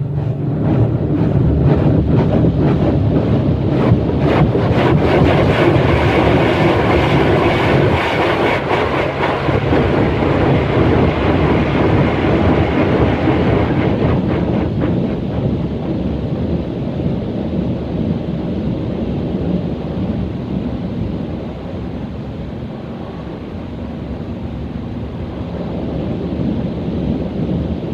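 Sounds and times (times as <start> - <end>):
car wash water jets drumming: 0.0 - 27.9.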